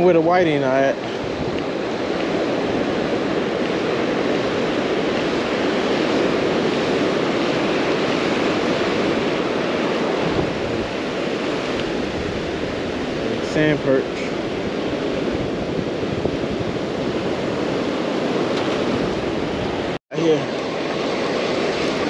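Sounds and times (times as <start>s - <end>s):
ocean surf on beach: 0.0s - 22.0s.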